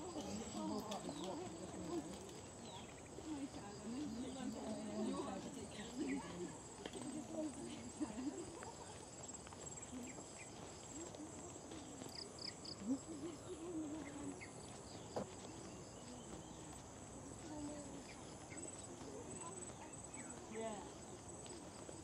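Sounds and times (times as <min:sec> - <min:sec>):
faint distant voices: 0:00.0 - 0:22.0.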